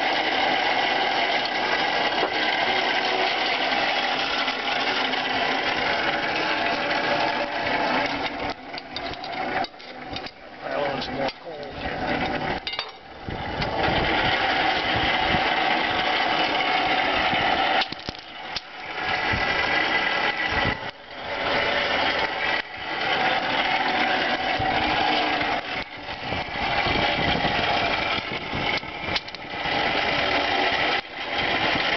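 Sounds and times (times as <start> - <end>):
hand-cranked forge blower whirring: 0.0 - 31.9.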